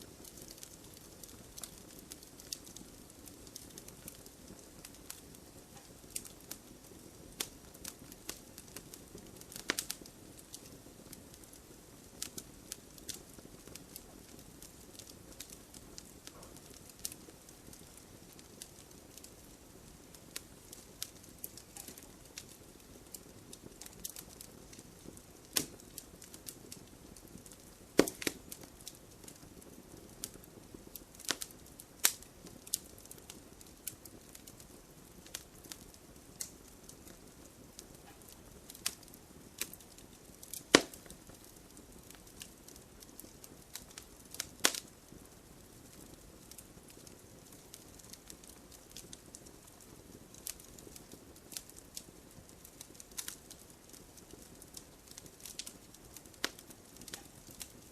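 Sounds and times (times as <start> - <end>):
campfire crackling and popping: 0.0 - 57.9
hiss of flames: 0.0 - 57.9.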